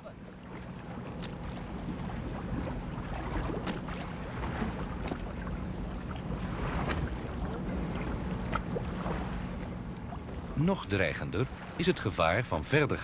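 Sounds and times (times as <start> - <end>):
boat engine drone: 0.0 - 13.0
water sloshing against hull: 0.0 - 13.0.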